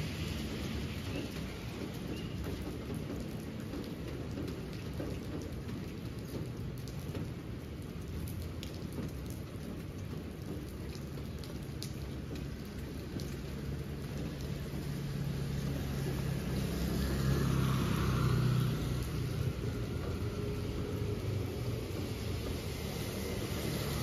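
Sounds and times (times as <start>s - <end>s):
rain on wet asphalt: 0.0s - 24.0s
vehicle passing on wet road: 0.0s - 24.0s.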